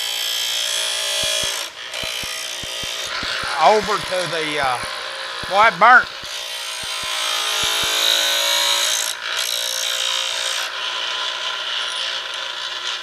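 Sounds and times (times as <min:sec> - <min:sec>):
tool grinding on grinder wheel: 0:00.0 - 0:13.0.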